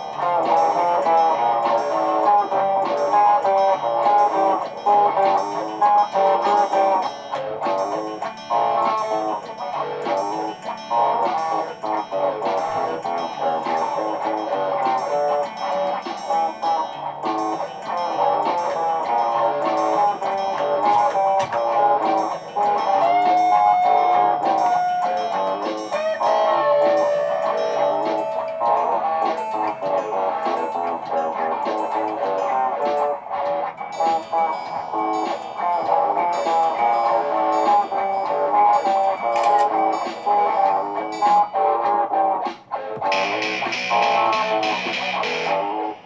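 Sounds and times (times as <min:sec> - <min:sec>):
layered guitar loops: 0:00.0 - 0:46.0.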